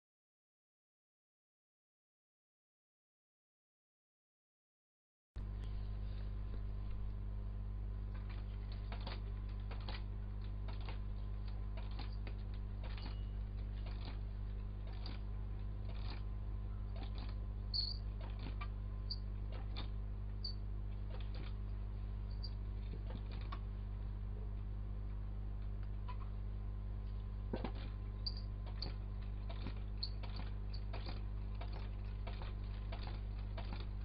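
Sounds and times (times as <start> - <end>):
steady low hum: 5.4 - 34.0.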